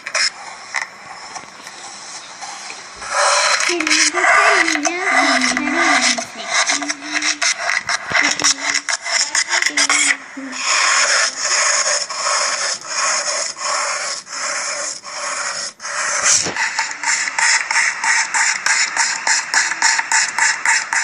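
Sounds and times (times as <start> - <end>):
rough rubbing or scraping: 0.0 - 21.0.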